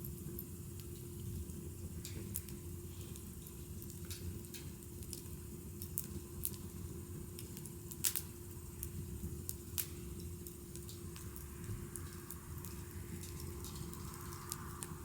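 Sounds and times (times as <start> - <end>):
wood fire crackling and popping: 0.1 - 15.0.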